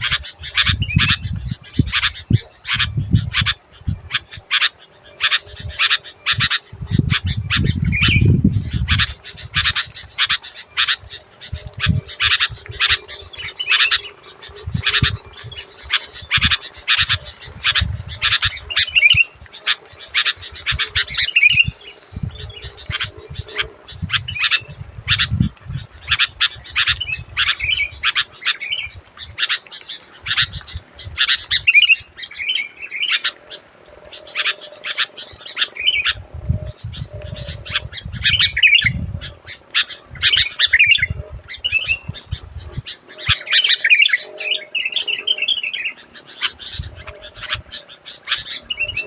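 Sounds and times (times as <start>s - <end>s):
bulbul calling: 0.0s - 49.0s.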